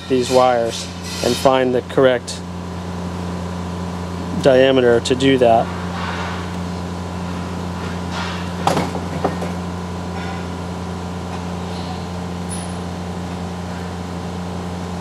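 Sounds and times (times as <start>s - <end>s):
low mechanical machinery hum: 0.0s - 15.0s.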